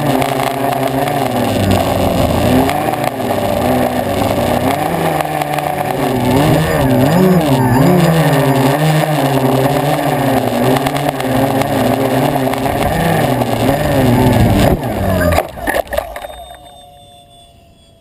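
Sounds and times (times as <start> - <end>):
model jet engine drone: 0.0 - 18.0.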